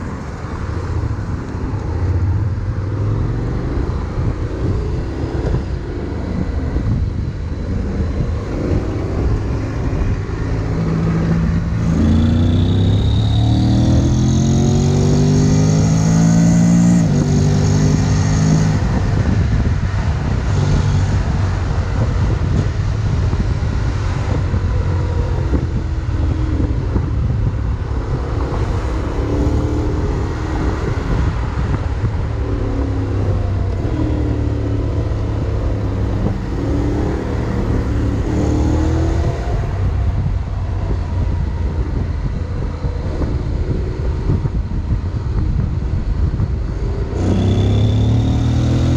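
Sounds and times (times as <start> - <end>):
motorcycle engine accelerating: 0.0 - 48.9
wind and road noise: 0.0 - 48.9.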